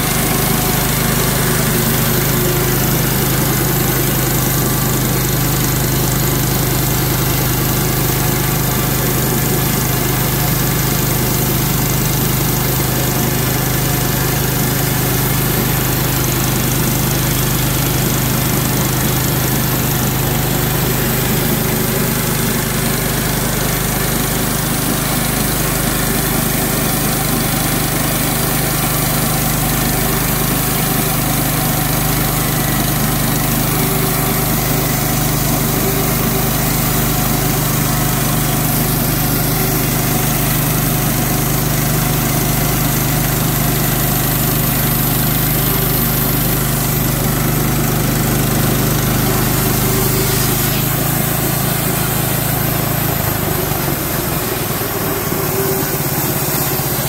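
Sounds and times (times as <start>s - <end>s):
band saw cutting log: 0.0s - 57.0s
sawmill engine running: 0.0s - 57.0s.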